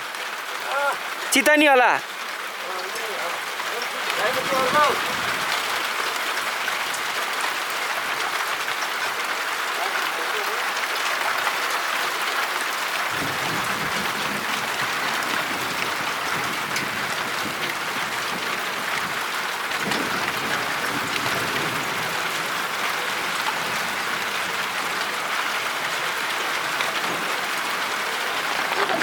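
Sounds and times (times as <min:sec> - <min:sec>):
hailstones ticking: 0:00.0 - 0:29.0
heavy rain downpour: 0:00.0 - 0:29.0.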